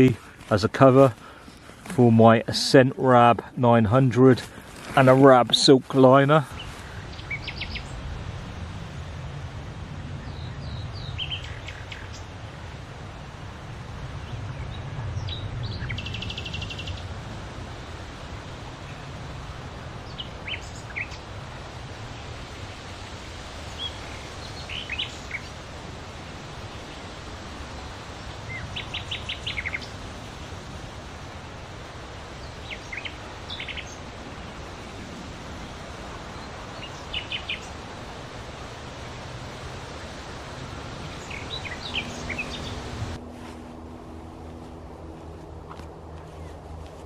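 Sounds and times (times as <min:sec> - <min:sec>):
birds chirping: 0:00.0 - 0:08.1, 0:10.2 - 0:12.4, 0:14.2 - 0:17.2, 0:20.0 - 0:43.2, 0:44.6 - 0:47.0
background hiss and low rumble: 0:00.0 - 0:47.0.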